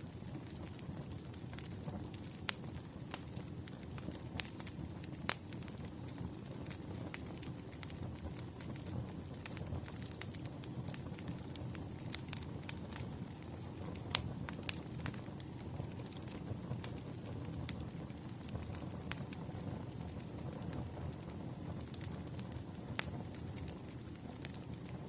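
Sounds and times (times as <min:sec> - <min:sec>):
firewood crackling and popping: 0:00.0 - 0:25.0
low rush of flames: 0:00.0 - 0:25.0.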